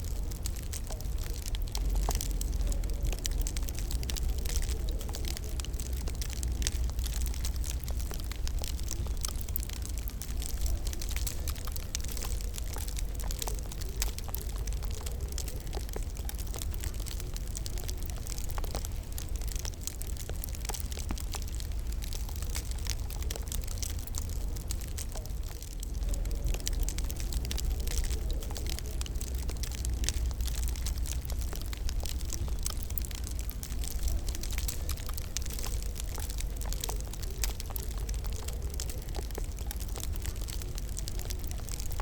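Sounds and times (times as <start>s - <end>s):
low steady rumble: 0.0s - 42.0s
wood fire crackling and popping: 0.0s - 42.0s.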